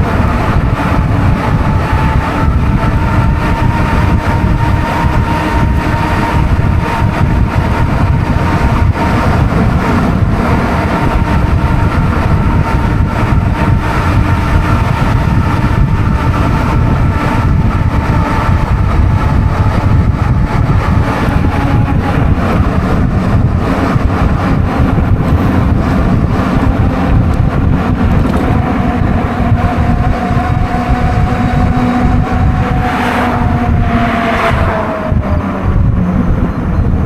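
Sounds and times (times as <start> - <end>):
steady high whine: 0.0 - 37.0
wind rushing over microphone: 0.0 - 37.0.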